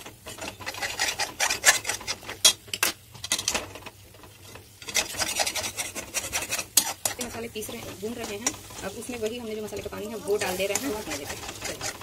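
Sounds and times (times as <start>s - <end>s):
spoon scraping frying paste: 0.0s - 12.0s.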